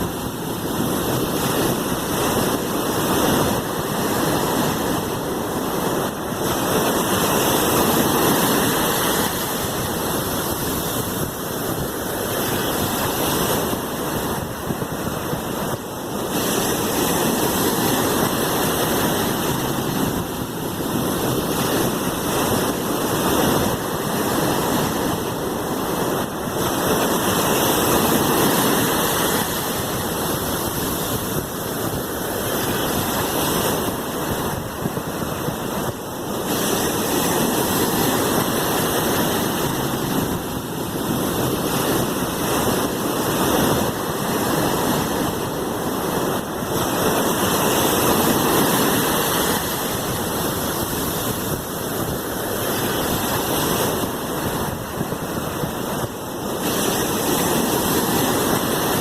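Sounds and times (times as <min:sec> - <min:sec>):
sea waves washing: 0:00.0 - 0:59.0.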